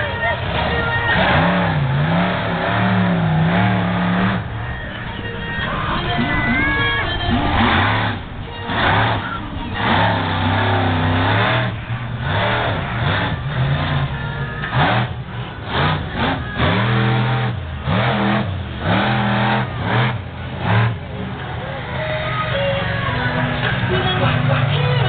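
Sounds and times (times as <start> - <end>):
monster truck engine revving: 0.0 - 25.0
exhaust bursts: 0.5 - 21.2.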